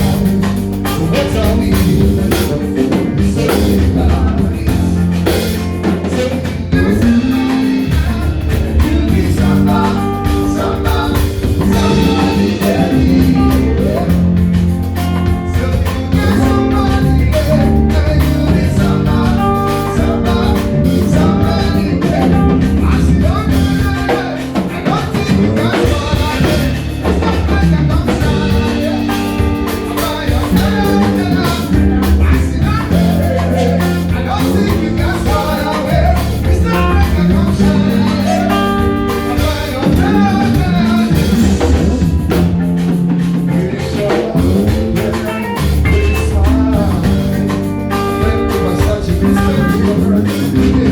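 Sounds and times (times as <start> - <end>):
live rock band: 0.0 - 50.9
person singing: 0.0 - 50.9.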